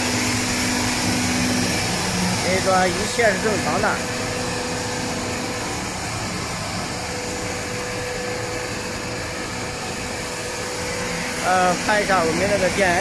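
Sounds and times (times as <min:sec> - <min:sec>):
fryer burner and pumps roar: 0:00.0 - 0:13.0.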